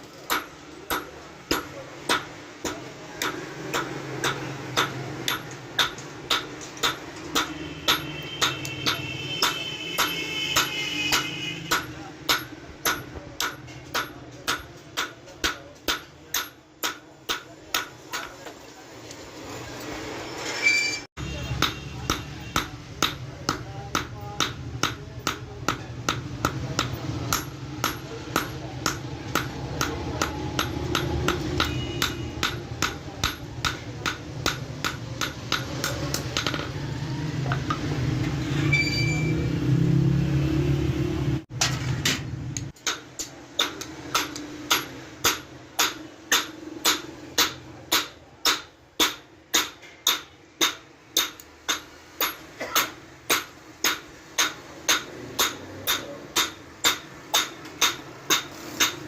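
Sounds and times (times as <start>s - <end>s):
hammer striking steel on anvil: 0.2s - 18.5s, 21.2s - 36.8s, 42.8s - 59.0s.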